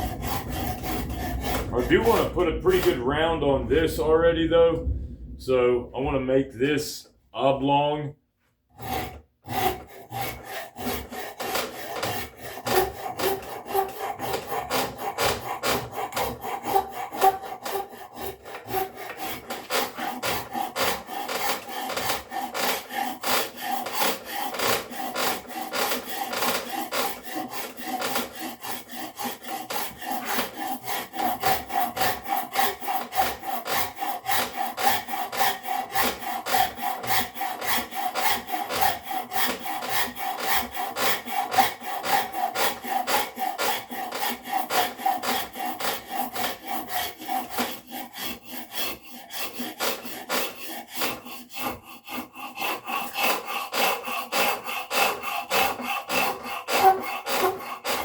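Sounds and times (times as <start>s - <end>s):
rasp filing wood: 0.0s - 4.2s, 8.7s - 58.0s.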